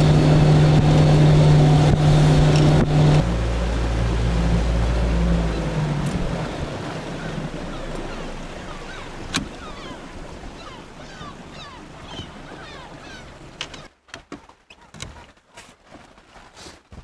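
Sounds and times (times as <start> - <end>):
boat motor running: 0.0 - 15.3
faint water wash: 0.0 - 17.0.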